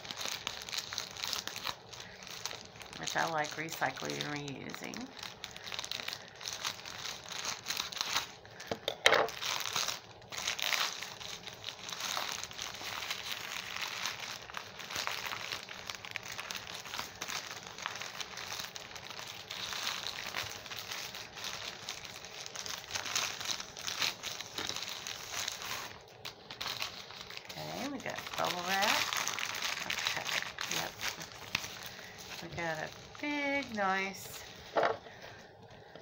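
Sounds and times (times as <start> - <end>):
plastic bag crinkling: 0.0 - 36.0.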